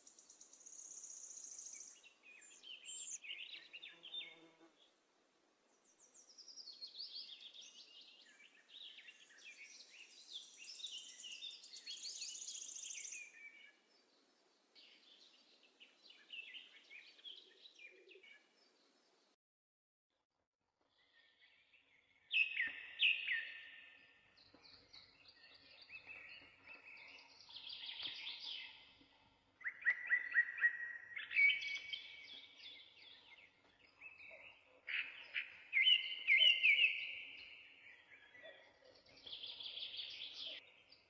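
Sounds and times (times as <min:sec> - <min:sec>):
small birds chirping and singing: 0:00.0 - 0:04.9, 0:05.7 - 0:19.4, 0:20.9 - 0:41.0.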